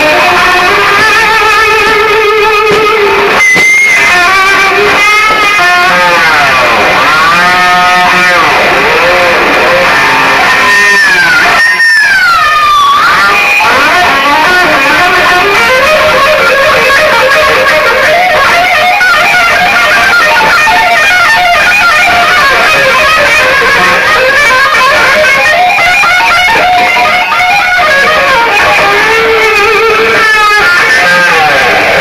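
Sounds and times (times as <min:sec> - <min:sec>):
electric guitar music: 0:00.0 - 0:32.0.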